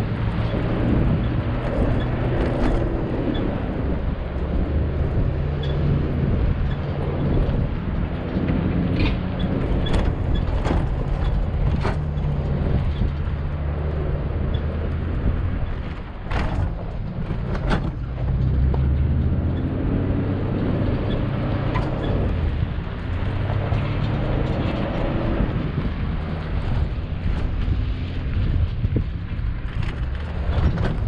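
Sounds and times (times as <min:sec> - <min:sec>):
vehicle engine running at low speed: 0:00.0 - 0:31.0.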